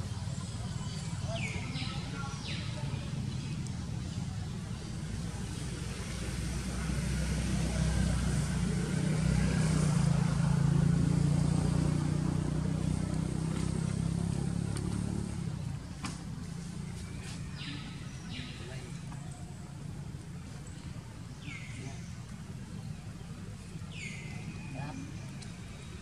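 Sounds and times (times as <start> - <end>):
vehicle engine passing by: 0.0 - 26.0.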